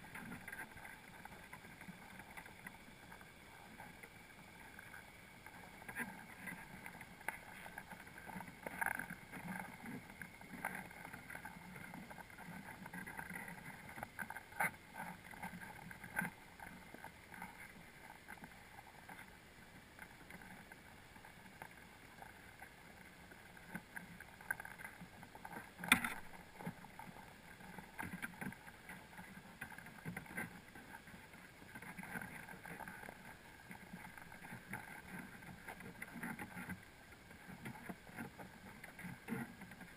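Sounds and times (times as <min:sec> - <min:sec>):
small clicks and knocks: 0:00.0 - 0:19.3, 0:19.9 - 0:39.9
muffled underwater wash: 0:00.0 - 0:39.9.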